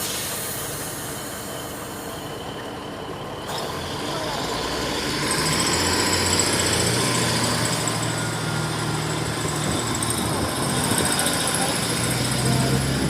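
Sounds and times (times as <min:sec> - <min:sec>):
train engine humming: 0:00.0 - 0:13.0.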